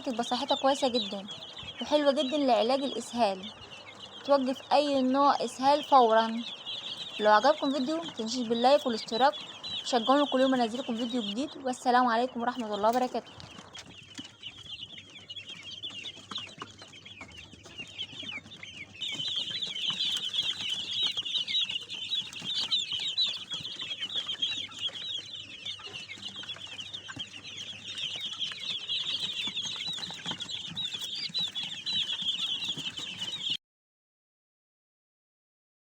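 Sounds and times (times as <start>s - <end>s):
chicks peeping: 0.0s - 33.6s.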